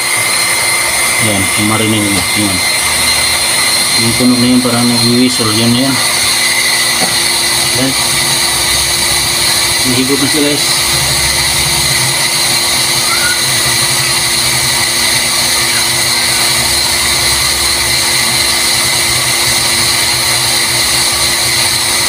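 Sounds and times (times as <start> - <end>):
electric water pump whining: 0.0 - 22.0.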